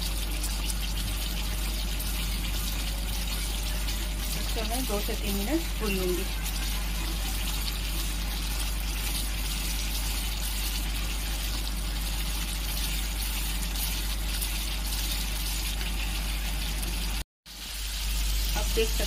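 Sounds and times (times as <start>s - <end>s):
paste sizzling in oil: 0.0s - 19.0s.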